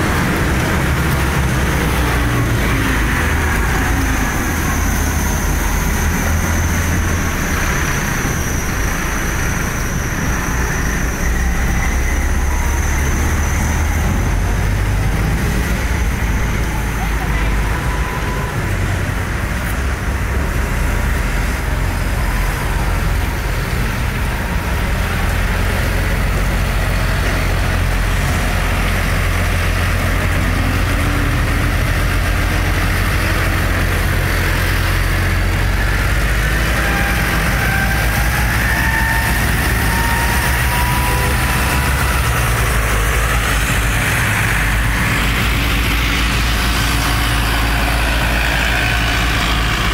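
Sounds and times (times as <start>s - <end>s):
tractor diesel engines running: 0.0s - 49.9s.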